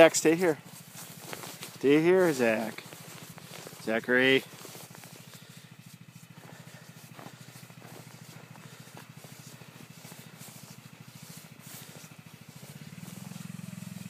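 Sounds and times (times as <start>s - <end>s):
faint snowmobile engine hum: 0.0s - 14.0s
footsteps crunching in snow: 0.0s - 14.0s.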